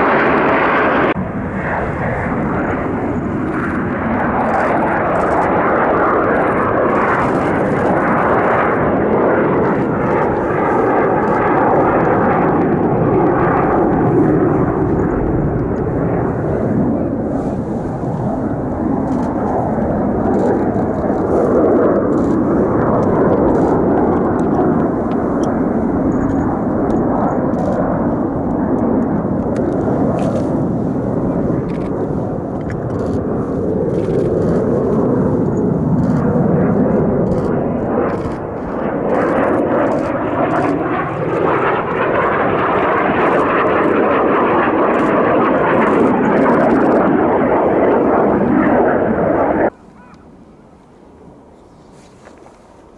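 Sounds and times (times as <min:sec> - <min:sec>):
jet engines overhead: 0:00.0 - 0:52.9.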